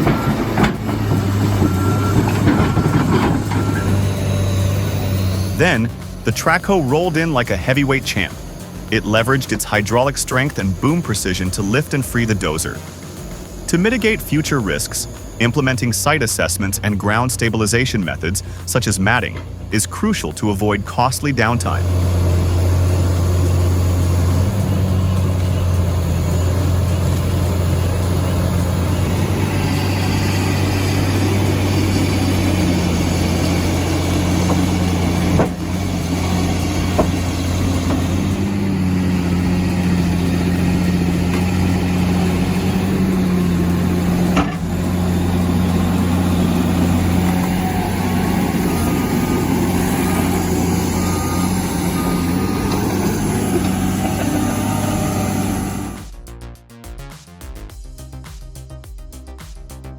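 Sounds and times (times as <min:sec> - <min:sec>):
diesel engine running: 0:00.0 - 0:56.5.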